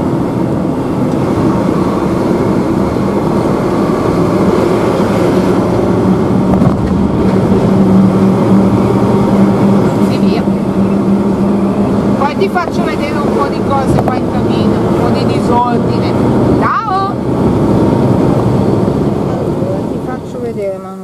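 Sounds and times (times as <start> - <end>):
diesel engine drone: 0.0 - 21.0
road noise: 0.0 - 21.0.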